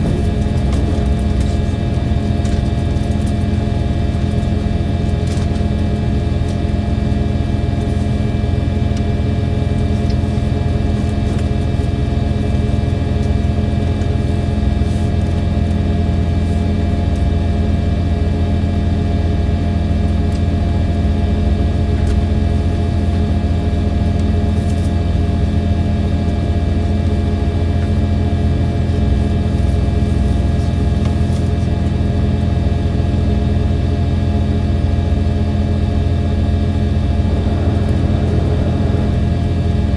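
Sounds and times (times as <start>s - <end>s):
diesel railcar engine running: 0.0s - 18.6s, 19.6s - 39.9s.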